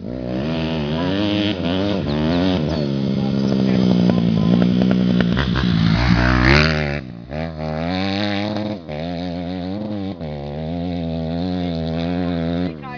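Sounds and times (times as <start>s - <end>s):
dirt bike engine revving and idling: 0.0s - 12.9s.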